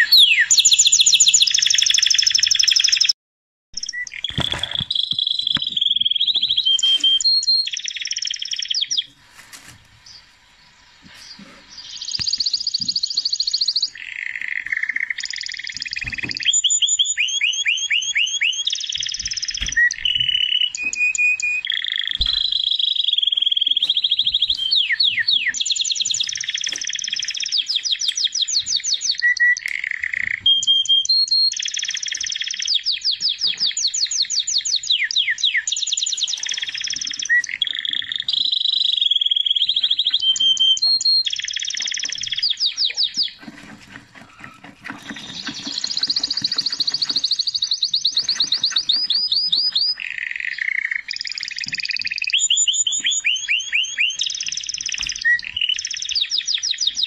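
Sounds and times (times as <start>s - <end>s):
songbird trilling song: 0.0s - 3.1s, 3.8s - 9.2s, 11.2s - 43.4s, 45.0s - 57.0s.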